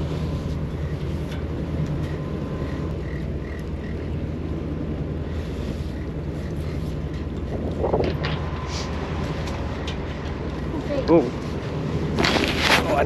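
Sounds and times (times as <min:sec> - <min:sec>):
boat engines humming: 0:00.0 - 0:13.0
wind buffeting microphone: 0:00.0 - 0:13.0.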